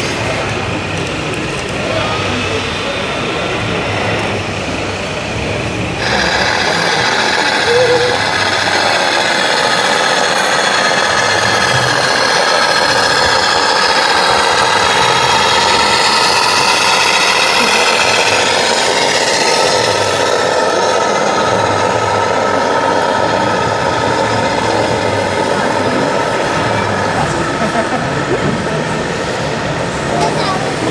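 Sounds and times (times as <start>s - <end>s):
exhibition hall noise: 0.0s - 30.9s
model truck diesel engine sound: 0.0s - 30.9s.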